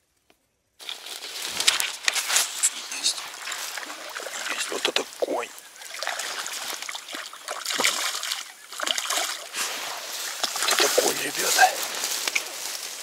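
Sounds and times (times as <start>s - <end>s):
fish splashing at surface: 1.6s - 12.4s.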